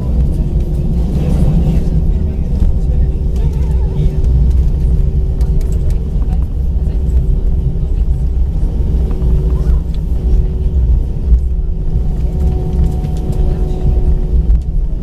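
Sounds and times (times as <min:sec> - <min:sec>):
jet engine and wheel rumble: 0:00.0 - 0:15.0.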